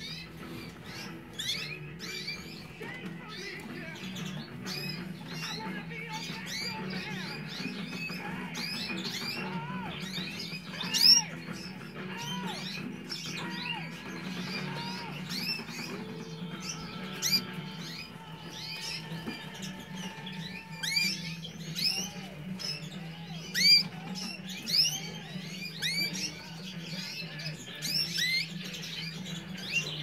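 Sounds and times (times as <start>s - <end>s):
canaries chirping: 0.0s - 30.0s.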